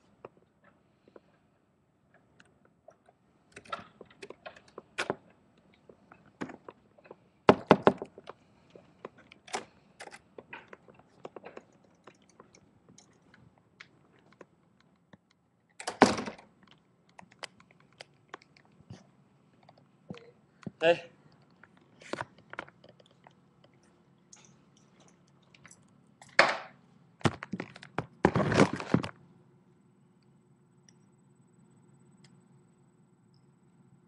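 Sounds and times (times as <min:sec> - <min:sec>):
recording device handling noise: 0:00.0 - 0:29.3.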